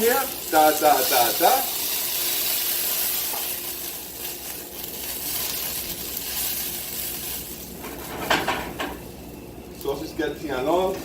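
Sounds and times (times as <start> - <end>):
sauce bubbling and sizzling in a pan: 0.0 - 9.8.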